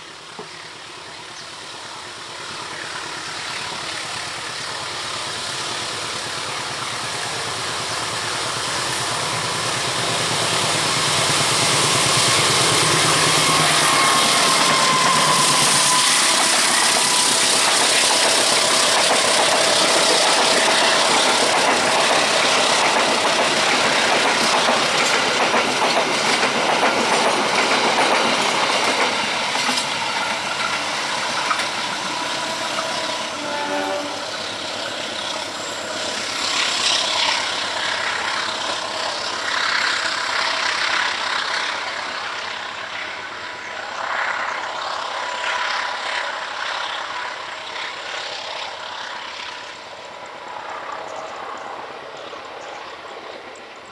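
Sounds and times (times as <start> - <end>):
locomotive engine hum: 0.2 - 49.6
train wheels clicking over rail joints: 2.4 - 53.8.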